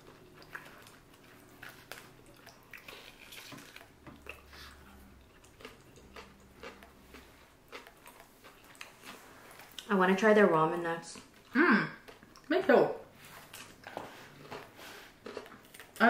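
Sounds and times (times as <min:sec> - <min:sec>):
people chewing: 0:00.0 - 0:12.6, 0:13.2 - 0:16.0.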